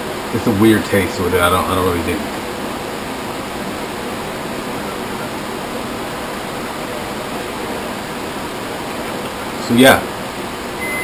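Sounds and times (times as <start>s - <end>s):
steady hiss: 0.0s - 10.8s.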